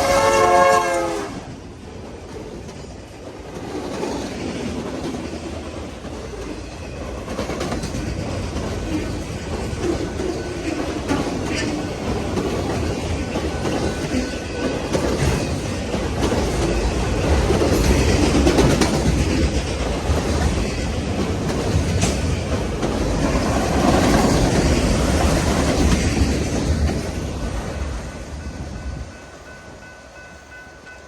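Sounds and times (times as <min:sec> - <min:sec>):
freight train rumbling past: 0:00.0 - 0:31.0
wheels clicking over rail joints: 0:01.9 - 0:28.0.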